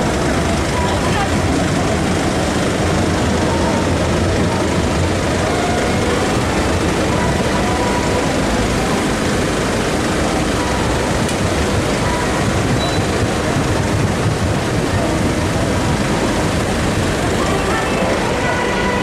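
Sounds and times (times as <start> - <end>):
rumble of vehicles: 0.0 - 19.0.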